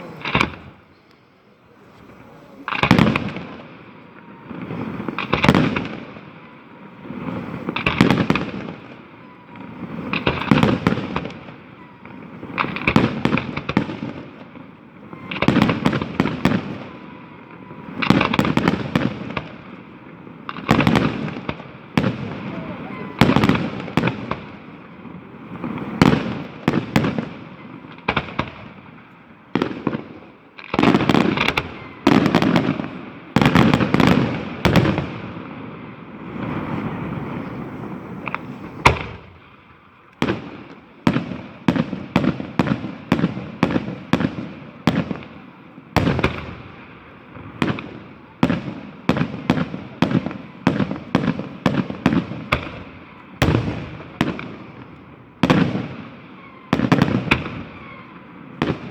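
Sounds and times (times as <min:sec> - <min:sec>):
rapid firework bangs: 0:00.0 - 0:01.0, 0:01.7 - 0:58.9.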